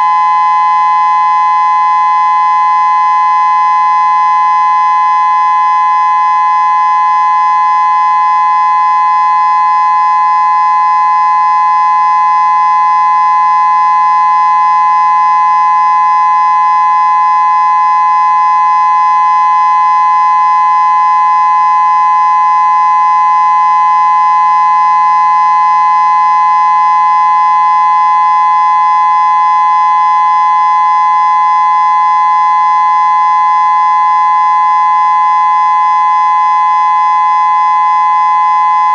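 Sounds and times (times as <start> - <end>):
siren steady two-note tone: 0.0 - 38.9.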